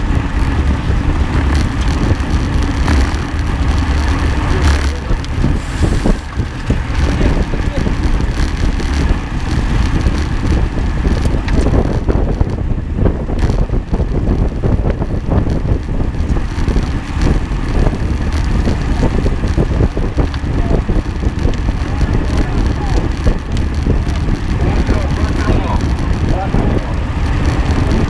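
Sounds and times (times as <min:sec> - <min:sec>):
vehicle low rumble: 0:00.0 - 0:28.0
wind buffeting microphone: 0:00.0 - 0:28.0
small rattles and knocks: 0:00.2 - 0:28.0.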